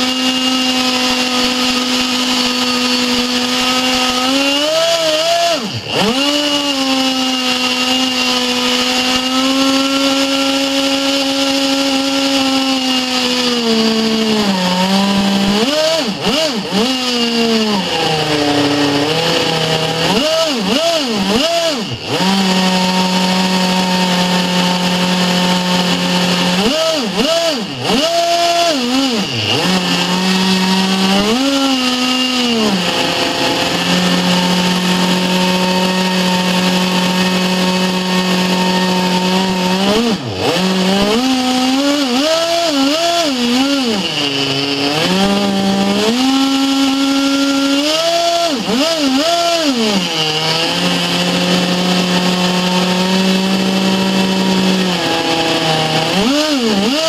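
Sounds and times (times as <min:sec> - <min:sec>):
model engine revving: 0:00.0 - 0:57.0.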